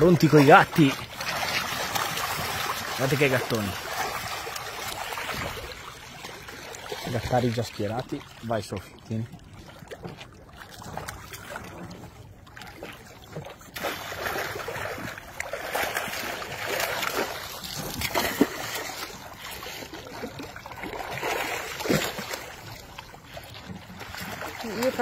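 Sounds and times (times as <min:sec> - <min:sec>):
fish splashing in water: 0:00.0 - 0:07.2, 0:09.6 - 0:25.0.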